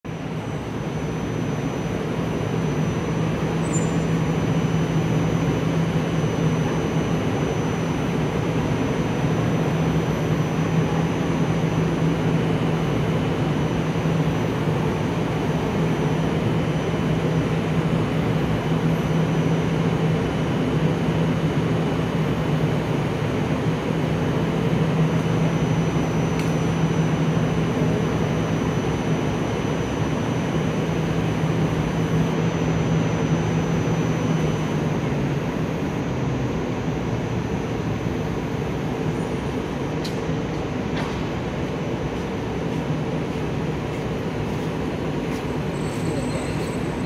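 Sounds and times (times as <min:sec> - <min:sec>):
faint high whine: 0:00.1 - 0:40.8, 0:41.4 - 0:47.0
tram equipment low hum: 0:00.1 - 0:47.0.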